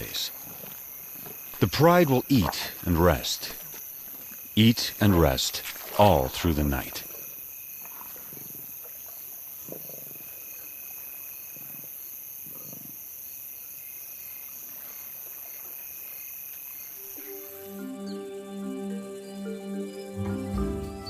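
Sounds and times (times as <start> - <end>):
night insects chorus: 0.0 - 21.0.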